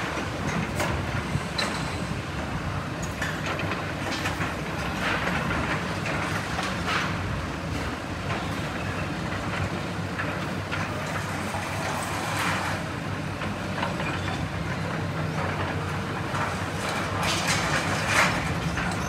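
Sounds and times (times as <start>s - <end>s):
excavator diesel engines droning: 0.0s - 19.0s
rubble clanking and rattling: 3.0s - 19.0s.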